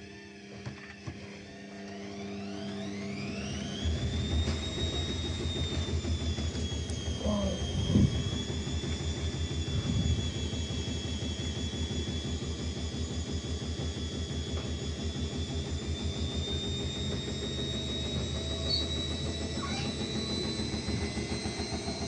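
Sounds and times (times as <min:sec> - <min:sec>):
washing machine spinning with whine: 0:00.0 - 0:22.0.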